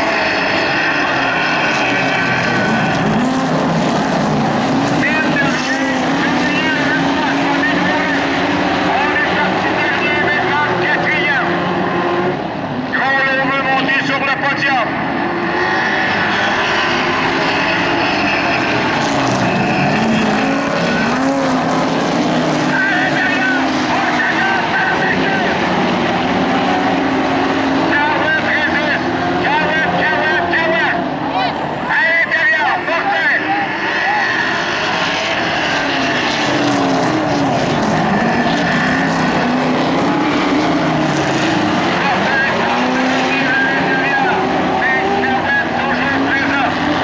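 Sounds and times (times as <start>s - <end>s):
racing car engines: 0.0s - 47.0s.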